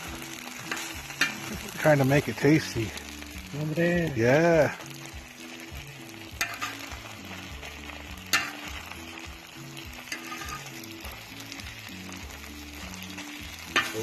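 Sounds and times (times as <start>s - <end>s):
food sizzling while stirred: 0.0s - 14.0s.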